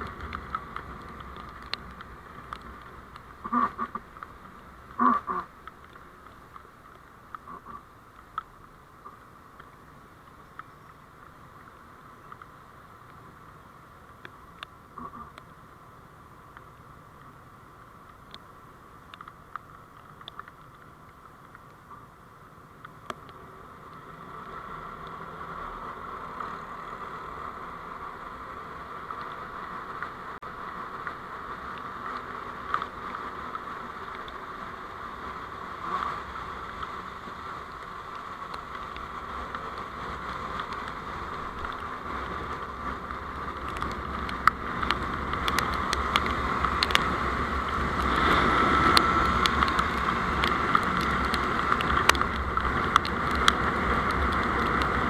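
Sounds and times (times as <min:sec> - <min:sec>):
vehicle road and wind noise: 0:00.0 - 0:55.0.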